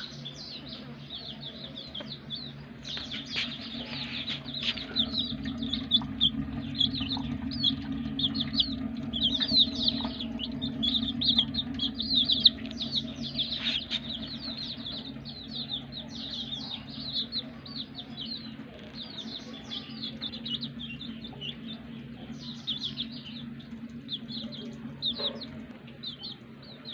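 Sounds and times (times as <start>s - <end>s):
chicks peeping: 0.0s - 26.9s
steady low hum: 0.0s - 26.9s.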